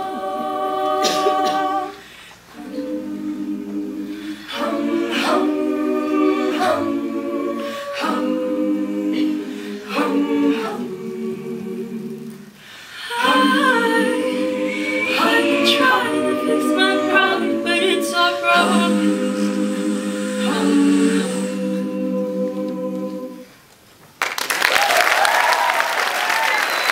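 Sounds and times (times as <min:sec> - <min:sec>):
women singing a cappella: 0:00.0 - 0:23.6.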